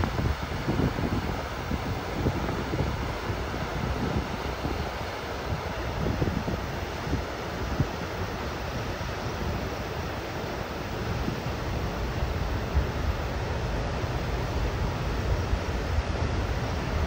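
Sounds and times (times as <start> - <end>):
water rushing over spillway: 0.0 - 17.0
wind buffeting microphone: 0.0 - 17.0.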